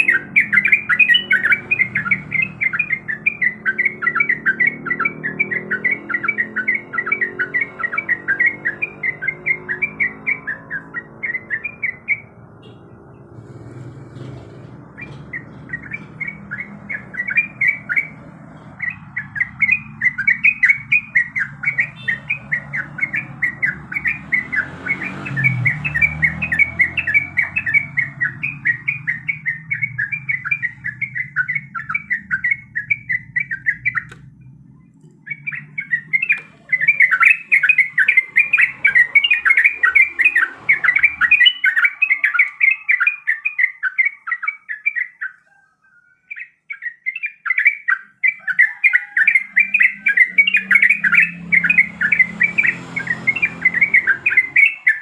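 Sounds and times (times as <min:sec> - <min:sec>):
bird chattering chirps: 0:00.0 - 0:55.0.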